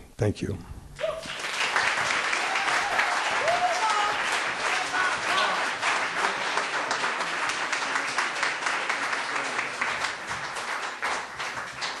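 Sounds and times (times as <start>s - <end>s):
audience applauding: 1.0s - 12.0s.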